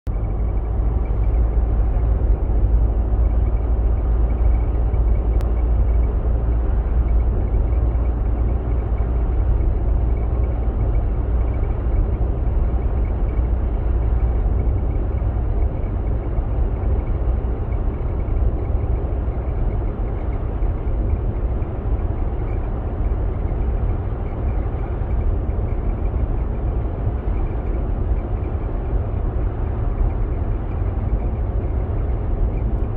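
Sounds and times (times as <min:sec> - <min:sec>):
car road and engine noise: 0:00.1 - 0:32.9.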